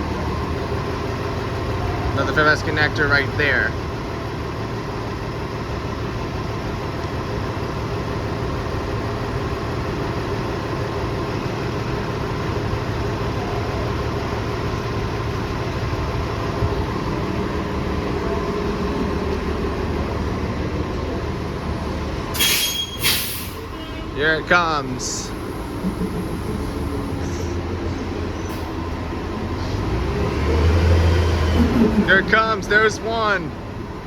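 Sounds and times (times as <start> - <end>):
bus engine idling: 0.0 - 34.0
street traffic: 0.0 - 34.0.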